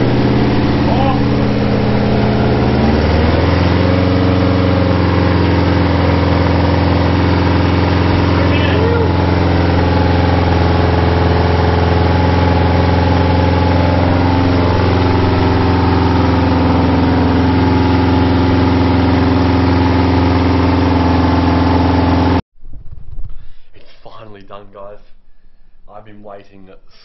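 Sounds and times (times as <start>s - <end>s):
car engine idling: 0.0s - 22.4s.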